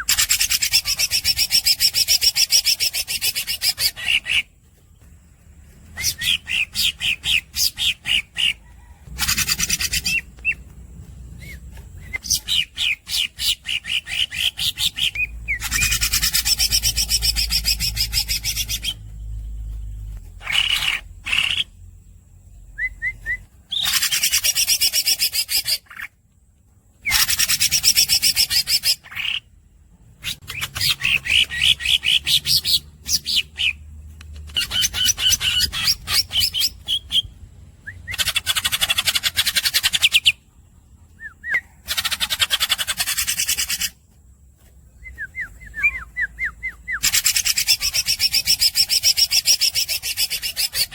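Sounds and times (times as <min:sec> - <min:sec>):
squeaky bird chirps: 0:00.0 - 0:04.6, 0:05.9 - 0:10.7, 0:11.3 - 0:21.8, 0:22.8 - 0:26.2, 0:27.0 - 0:29.5, 0:30.2 - 0:33.8, 0:34.4 - 0:37.3, 0:37.9 - 0:40.5, 0:41.1 - 0:44.0, 0:45.0 - 0:50.9
bird singing rolling trills: 0:00.0 - 0:50.9.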